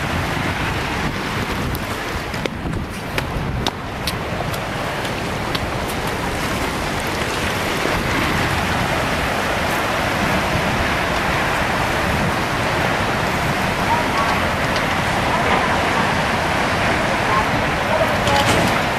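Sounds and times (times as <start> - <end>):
floodwater rushing and churning: 0.0 - 18.9.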